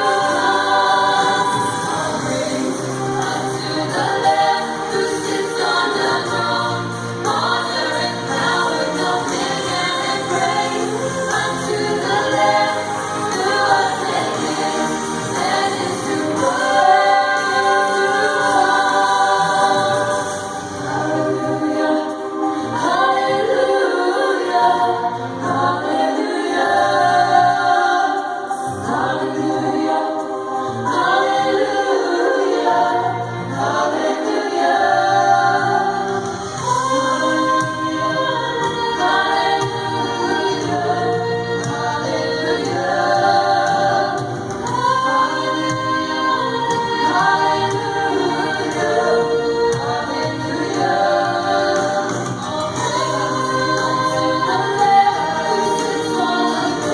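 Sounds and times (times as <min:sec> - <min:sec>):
choir singing in harmony: 0:00.0 - 0:56.9.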